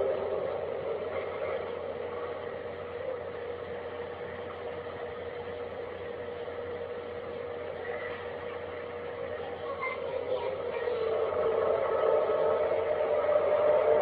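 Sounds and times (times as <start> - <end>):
steady mid-pitched drone: 0.0 - 14.0.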